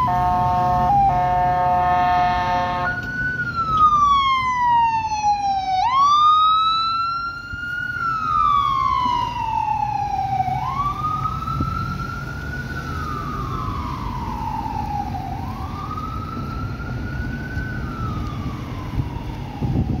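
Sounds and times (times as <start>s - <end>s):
ambulance siren wailing: 0.0s - 20.0s
low traffic rumble: 0.0s - 20.0s.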